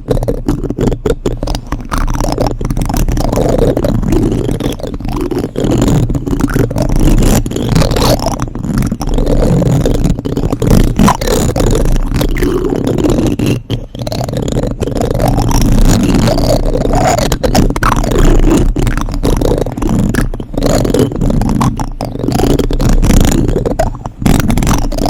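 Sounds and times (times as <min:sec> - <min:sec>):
plastic spoons scraping microphone: 0:00.0 - 0:25.0.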